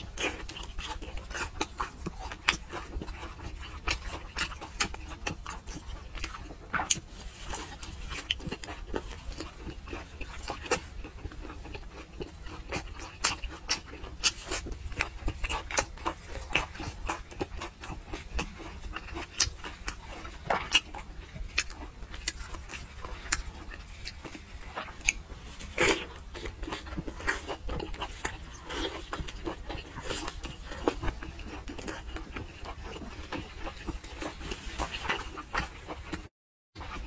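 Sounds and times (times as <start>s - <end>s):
wet chewing and lip smacking: 0.0s - 37.0s.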